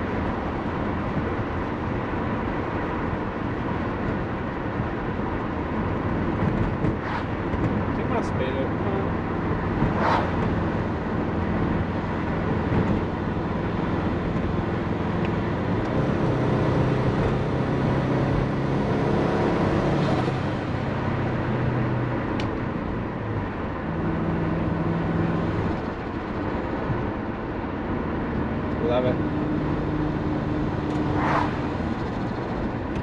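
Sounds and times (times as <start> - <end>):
car engine revving while driving: 0.0 - 33.0.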